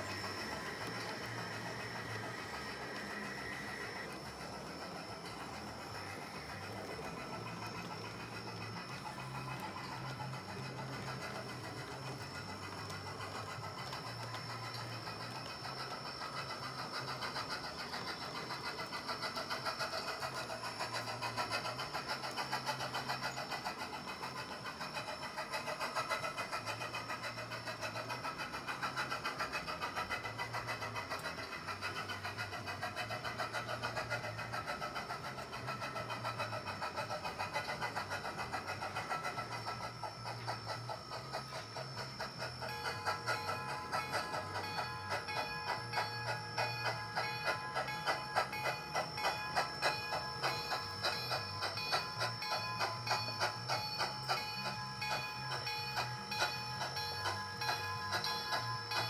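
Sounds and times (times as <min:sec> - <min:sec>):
model train motor whirr: 0:00.0 - 0:59.0
wheels clicking over rails: 0:00.0 - 0:59.0.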